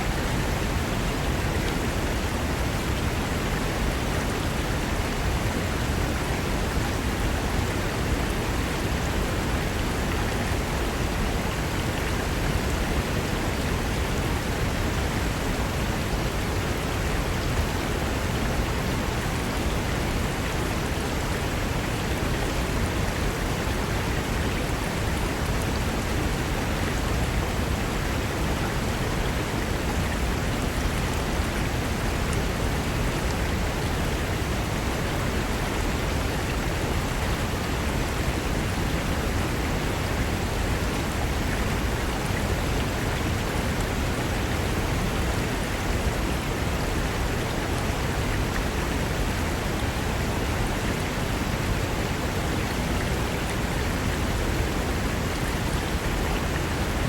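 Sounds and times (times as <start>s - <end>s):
river running over rocks: 0.0s - 57.0s.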